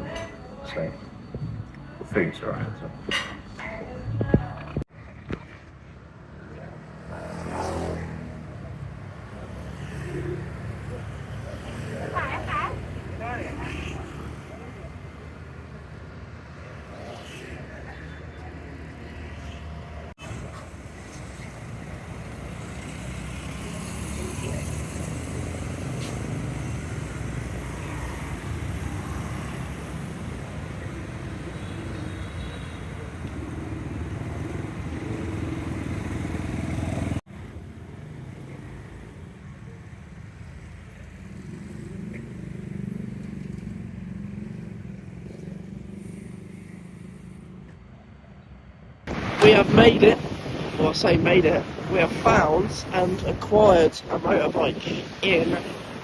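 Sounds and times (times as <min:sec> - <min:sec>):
motorbike engines running: 0:00.0 - 0:48.5.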